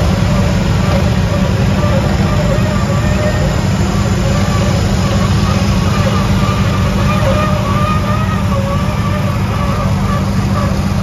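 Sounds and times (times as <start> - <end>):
riding tractor engines running: 0.0 - 11.0.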